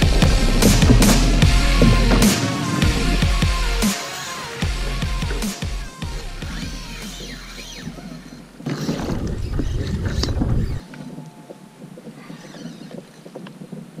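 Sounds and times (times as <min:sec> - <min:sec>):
wind buffeting: 0:00.0 - 0:07.0, 0:07.9 - 0:14.0
water wash: 0:00.0 - 0:14.0.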